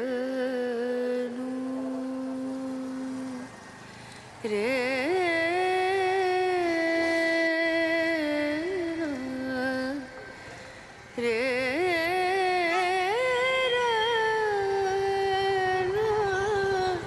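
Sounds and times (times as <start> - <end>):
person singing slow melody: 0.0 - 17.0.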